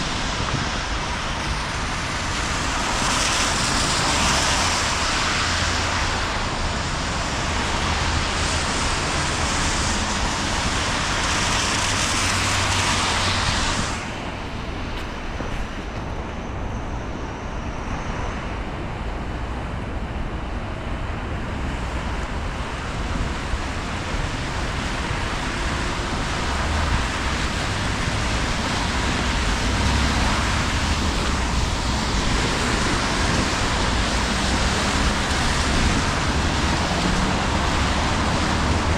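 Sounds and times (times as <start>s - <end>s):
steady rain hiss: 0.0s - 14.9s, 21.6s - 38.9s
traffic on wet streets: 0.0s - 38.9s.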